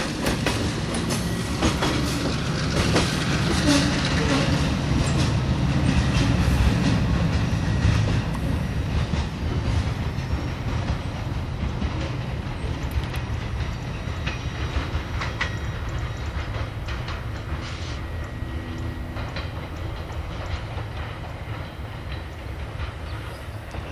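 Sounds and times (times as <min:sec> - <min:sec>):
freight train wheels rumbling: 0:00.0 - 0:23.9.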